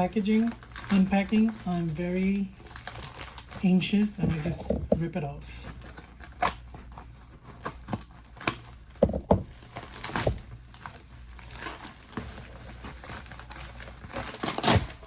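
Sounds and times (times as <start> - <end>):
packaging ripping: 0.0 - 4.5, 5.6 - 15.0
packaging rustling and crackling: 0.0 - 15.0.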